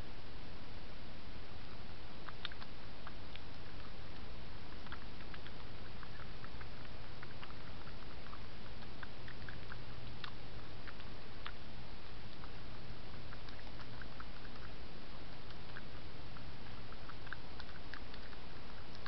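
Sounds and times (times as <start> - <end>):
steady hiss: 0.0 - 19.0
hedgehog chewing clicks: 2.1 - 19.0.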